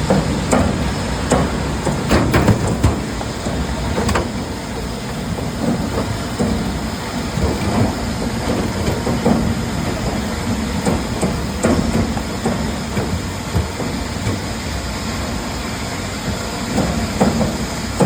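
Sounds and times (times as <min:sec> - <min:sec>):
machinery knocks and clatter: 0:00.0 - 0:15.4, 0:16.2 - 0:18.0
heavy machinery rumble: 0:00.0 - 0:18.0.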